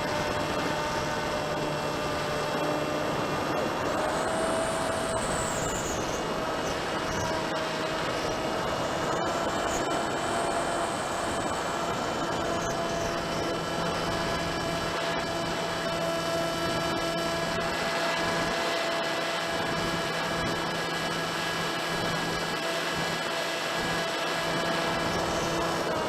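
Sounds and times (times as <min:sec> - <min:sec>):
model plane motor buzzing: 0:00.0 - 0:26.0.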